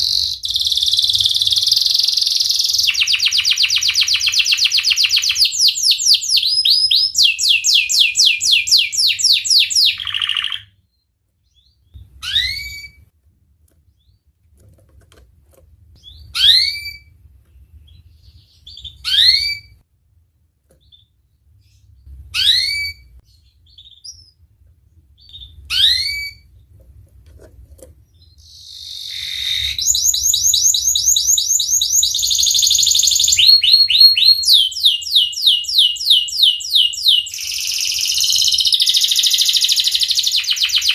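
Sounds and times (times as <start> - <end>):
canary singing trills and chirps: 0.0 - 13.1, 16.0 - 19.8, 20.7 - 24.4, 25.0 - 26.8, 28.0 - 40.9.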